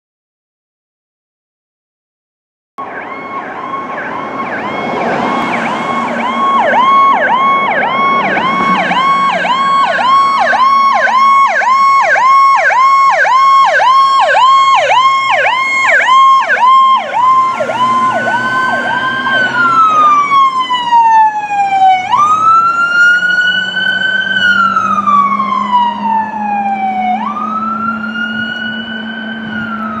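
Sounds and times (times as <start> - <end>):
fire engine siren: 2.8 - 30.0.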